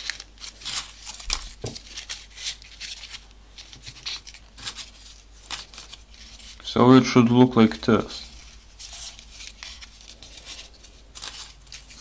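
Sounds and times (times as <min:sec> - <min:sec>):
small paper clicks: 0:00.0 - 0:06.6, 0:08.4 - 0:12.0
paper rustling and scraping: 0:00.0 - 0:12.0.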